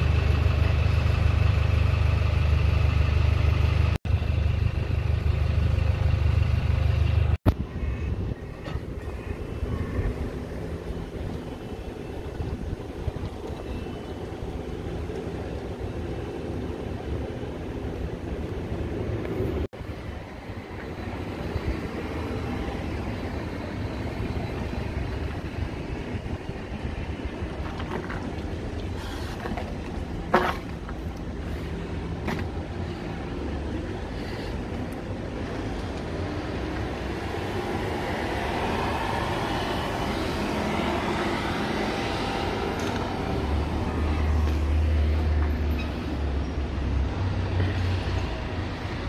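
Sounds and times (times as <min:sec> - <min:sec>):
diesel bus engines rumbling: 0:00.0 - 0:49.0.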